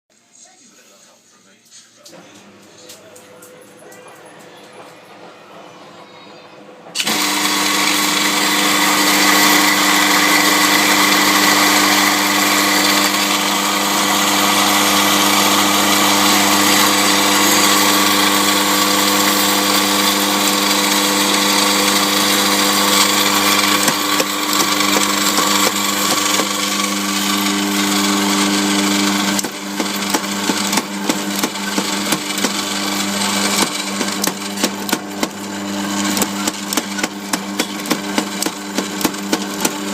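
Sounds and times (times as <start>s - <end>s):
coffee beans grinding: 7.0s - 39.9s
coffee grinder motor humming: 7.0s - 39.9s
grinder crackles: 7.0s - 39.9s.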